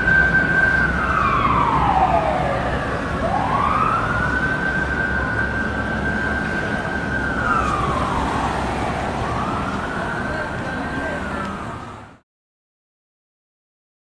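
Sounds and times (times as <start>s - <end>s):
engine rumble: 0.0s - 12.2s
fire truck siren wailing: 0.0s - 12.2s.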